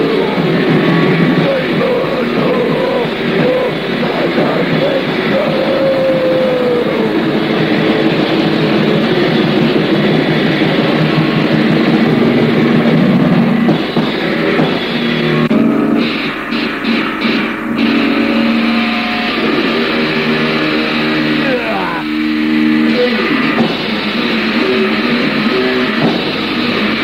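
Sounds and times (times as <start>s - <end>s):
distorted electric guitars: 0.0s - 27.0s
drums: 0.0s - 27.0s
wavering held high note: 0.0s - 27.0s.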